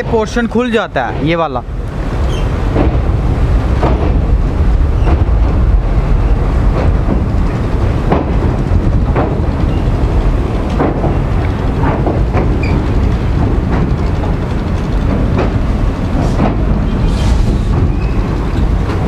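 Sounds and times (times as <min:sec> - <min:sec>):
train rumbling across steel bridge: 0:00.0 - 0:19.0
wheels knocking over rail joints: 0:02.2 - 0:19.0.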